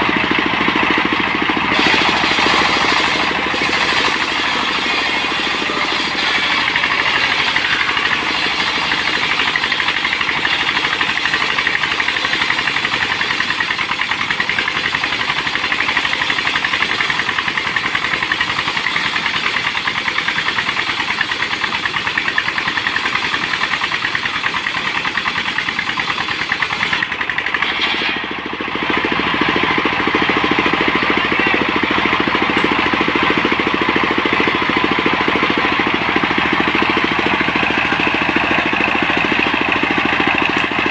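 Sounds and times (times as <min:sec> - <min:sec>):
sawmill engine sawing timber: 0:00.0 - 0:40.9.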